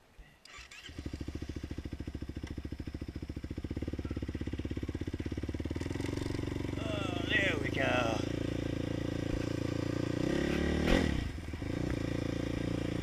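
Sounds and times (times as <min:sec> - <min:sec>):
atv engine starting and idling: 0:00.4 - 0:13.0.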